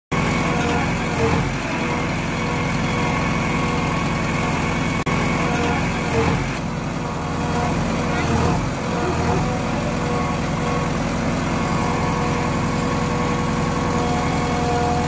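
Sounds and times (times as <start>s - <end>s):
diesel engine rumbling: 0.1s - 15.0s.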